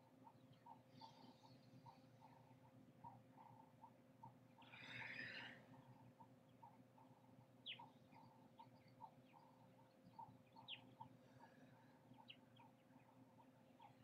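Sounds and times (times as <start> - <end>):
faint steady hum: 0.0 - 14.0
soft even ticking: 0.0 - 14.0.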